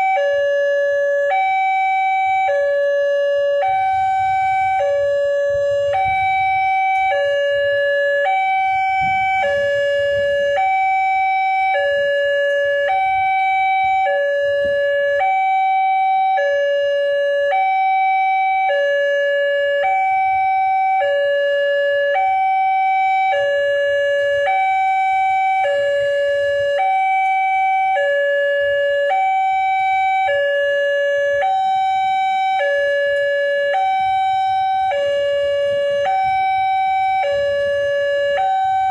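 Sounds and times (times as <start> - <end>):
two-tone level crossing siren: 0.0 - 38.9.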